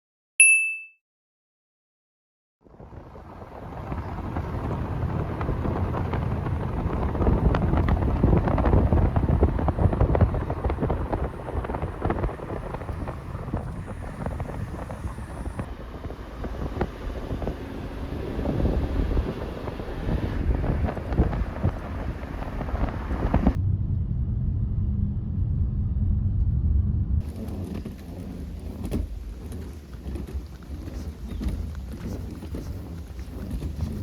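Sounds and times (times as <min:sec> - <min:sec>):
wind buffeting microphone: 0:02.7 - 0:23.6, 0:27.2 - 0:34.0.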